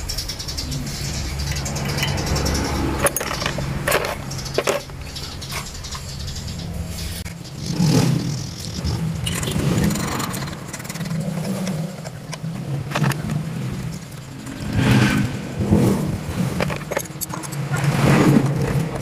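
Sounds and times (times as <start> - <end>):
sharp clicks and knocks: 0.0 - 14.9, 16.4 - 19.0.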